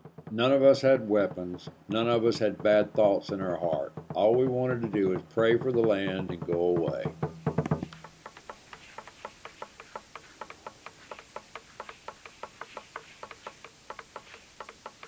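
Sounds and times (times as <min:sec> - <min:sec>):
rattles clicking rhythmically: 0:00.0 - 0:15.0.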